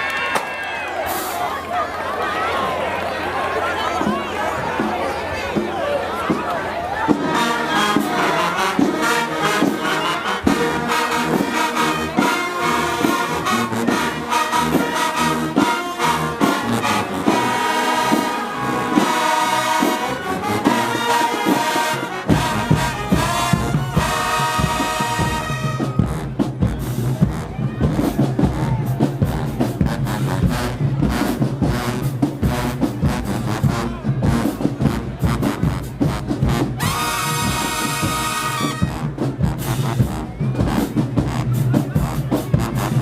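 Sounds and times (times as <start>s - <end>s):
marching band brass: 0.0s - 43.0s
steady drum beat: 7.0s - 43.0s.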